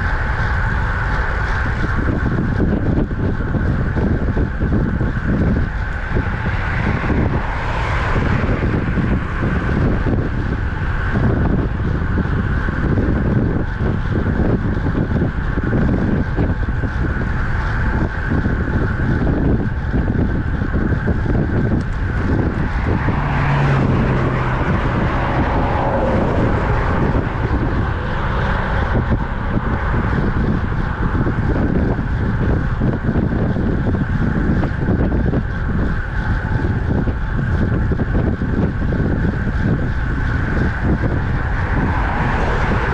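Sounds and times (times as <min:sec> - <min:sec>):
tyre and road noise: 0:00.0 - 0:42.9
wind buffeting microphone: 0:00.0 - 0:42.9.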